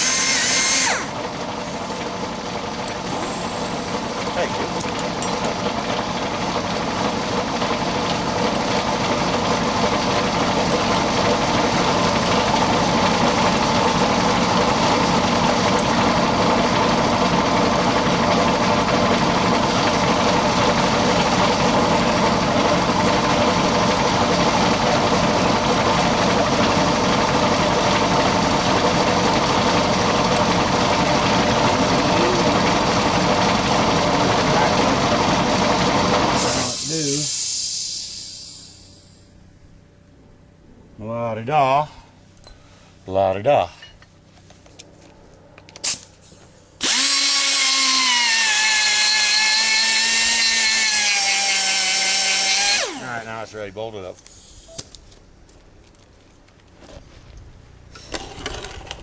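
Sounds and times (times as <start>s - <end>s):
engine running steadily: 0.0s - 48.5s, 52.1s - 59.0s.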